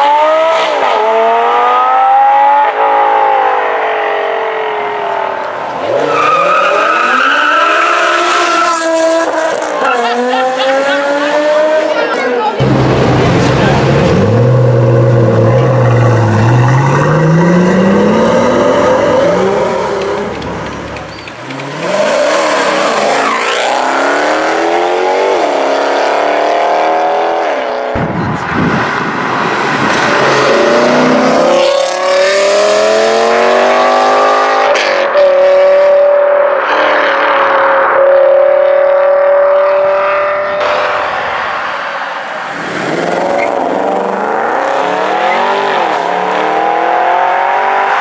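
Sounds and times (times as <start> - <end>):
cars accelerating hard with upshifts: 0.0 - 48.0
sports car accelerating: 0.0 - 48.0.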